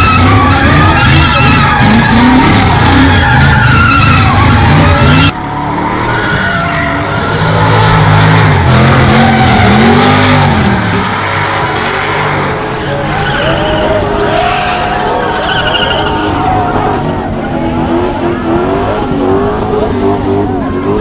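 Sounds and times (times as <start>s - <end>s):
tyres squealing: 0.0s - 5.4s, 6.0s - 21.0s
car engine revving: 0.0s - 21.0s.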